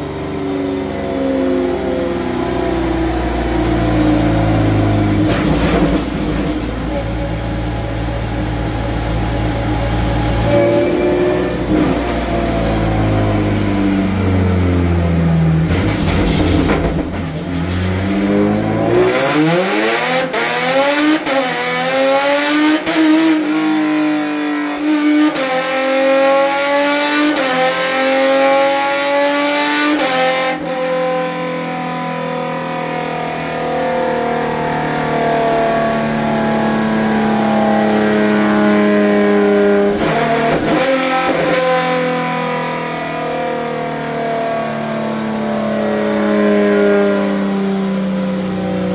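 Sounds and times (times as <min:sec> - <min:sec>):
race car engine revving on dyno: 0:00.0 - 0:48.9.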